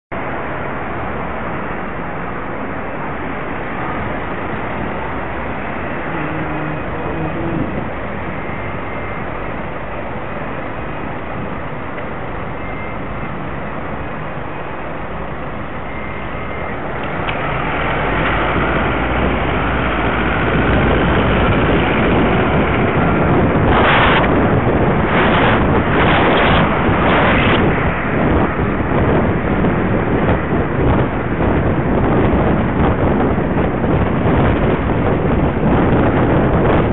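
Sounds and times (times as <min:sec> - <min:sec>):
traffic running: 0:00.1 - 0:36.9
wind buffets: 0:00.1 - 0:36.9
wind noise on microphone: 0:00.1 - 0:36.9.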